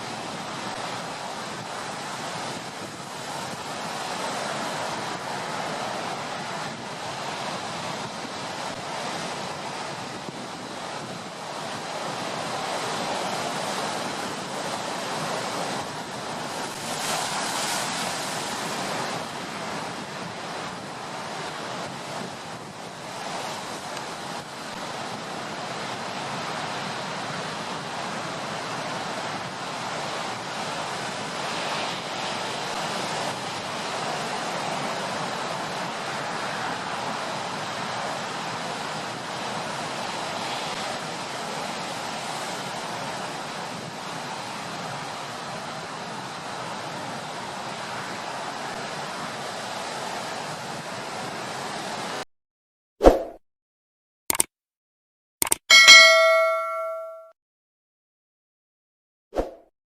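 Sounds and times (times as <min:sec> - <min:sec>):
storm waves breaking: 0:00.0 - 0:52.2
wind: 0:00.0 - 0:52.2, 0:55.4 - 0:57.3.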